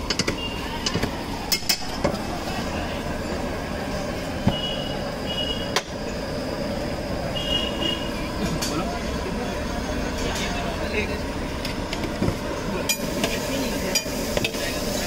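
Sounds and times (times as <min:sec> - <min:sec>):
traffic din: 0:00.0 - 0:15.0.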